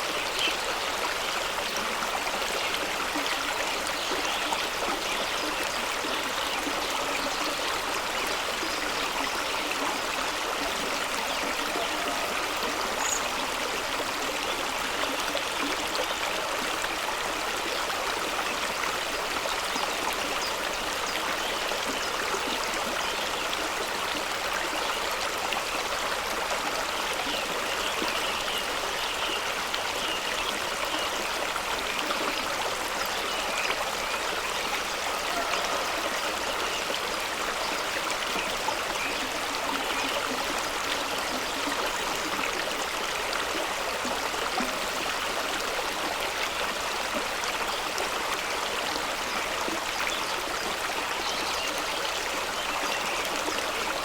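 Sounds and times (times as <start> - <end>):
stream splashing over rocks: 0.0 - 54.0.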